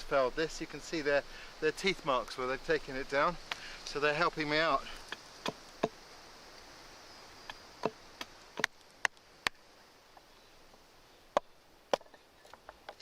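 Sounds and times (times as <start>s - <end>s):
faint high insect buzz: 0.0s - 13.0s.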